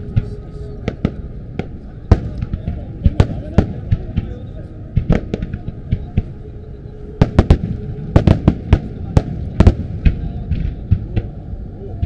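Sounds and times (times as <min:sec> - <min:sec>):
fireworks bangs: 0:00.0 - 0:06.4, 0:07.1 - 0:11.4.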